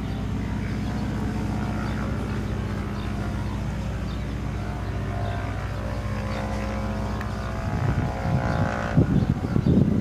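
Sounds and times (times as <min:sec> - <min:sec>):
propeller airplane engine drone: 0:00.0 - 0:10.0
wind buffeting microphone: 0:00.0 - 0:10.0.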